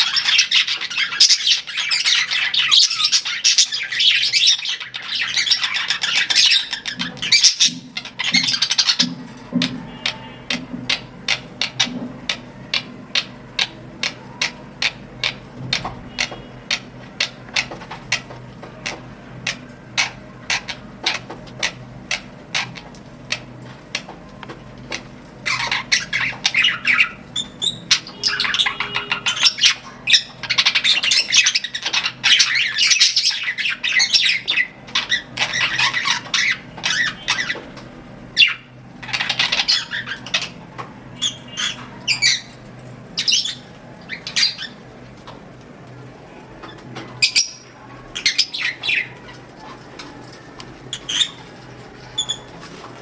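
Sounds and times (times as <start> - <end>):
budgerigars chirping: 0.0 - 9.2, 9.9 - 23.5, 24.9 - 44.9, 46.7 - 49.7, 50.9 - 52.5.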